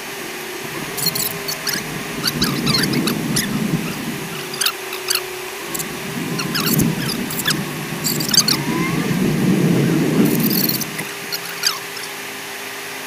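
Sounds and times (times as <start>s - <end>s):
engine hum: 0.0s - 13.0s
high falling squeaks: 0.6s - 12.2s.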